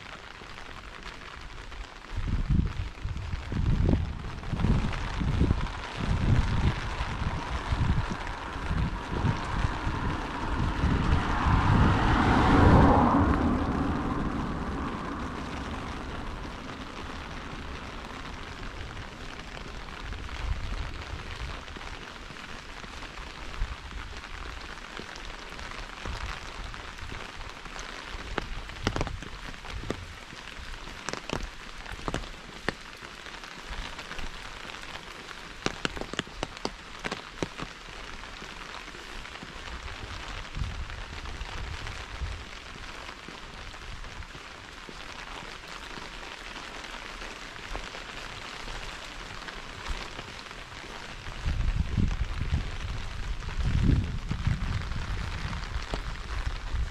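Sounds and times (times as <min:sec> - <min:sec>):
car tyres hissing on wet road: 0:00.0 - 0:56.9
light rain: 0:00.0 - 0:56.9.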